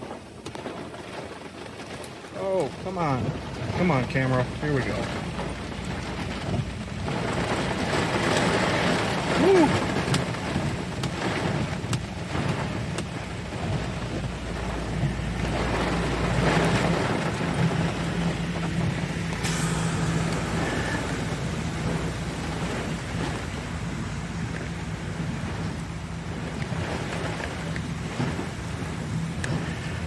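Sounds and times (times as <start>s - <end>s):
deep rumble: 0.0s - 30.0s
gusty wind: 0.0s - 30.0s
rain: 0.0s - 30.0s.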